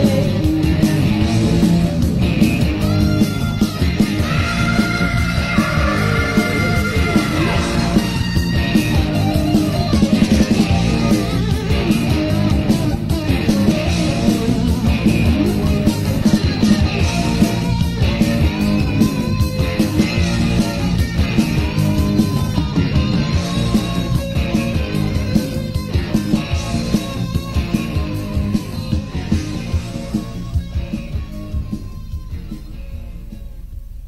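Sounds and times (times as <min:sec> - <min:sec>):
upbeat guitar rock song: 0:00.0 - 0:34.0.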